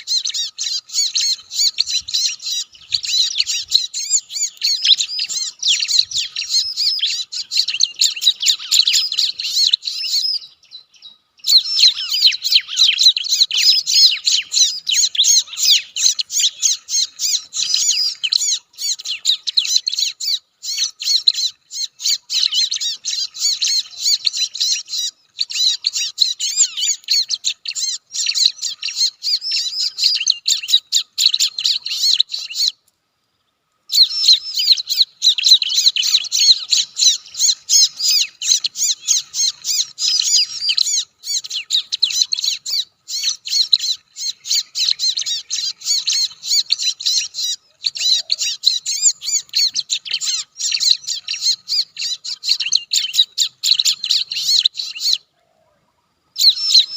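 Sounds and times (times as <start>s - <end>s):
birds chattering and squawking: 0.0s - 56.9s.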